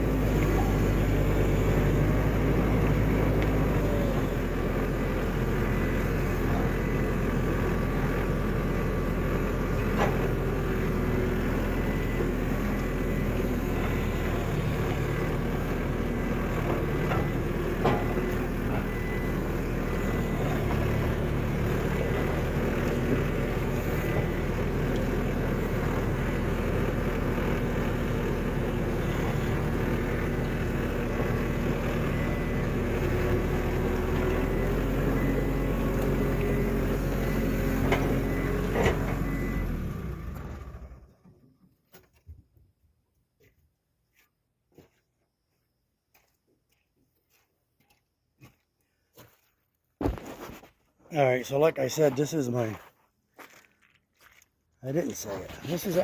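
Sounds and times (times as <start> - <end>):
skid steer engine running: 0.0 - 42.3, 53.4 - 56.0.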